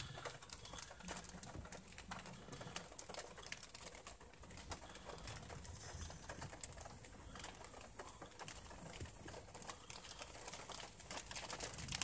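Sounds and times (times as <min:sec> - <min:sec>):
light rain ticking on car: 0:00.0 - 0:12.0.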